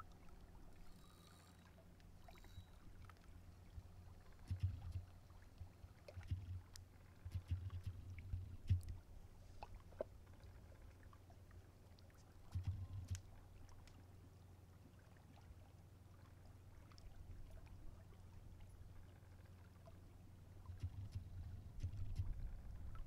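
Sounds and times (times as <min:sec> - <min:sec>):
small waves lapping: 0:00.0 - 0:23.0.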